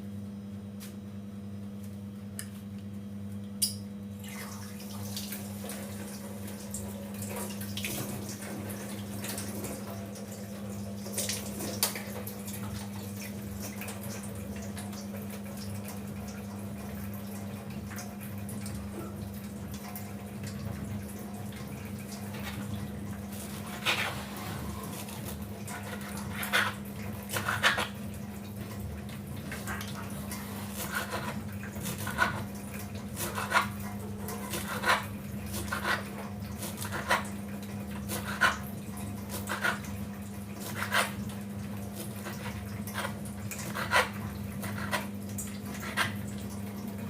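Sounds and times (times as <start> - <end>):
steady electrical hum: 0.0 - 47.0.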